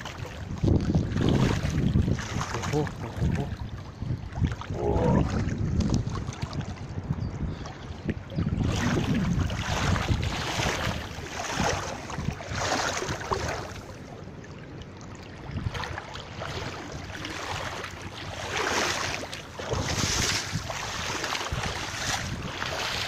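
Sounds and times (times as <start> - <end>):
legs wading through water: 0.0 - 23.0.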